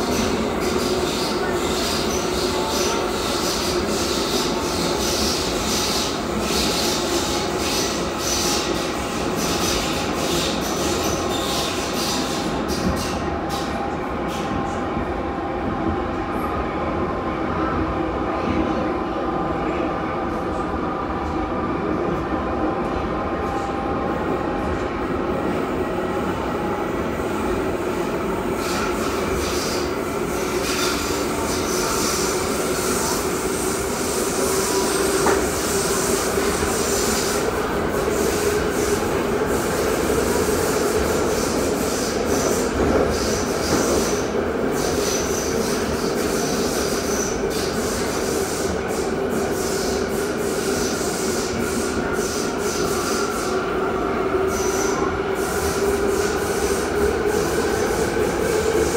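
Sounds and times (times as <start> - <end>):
metro wheels rumbling on rails: 0.0 - 58.9.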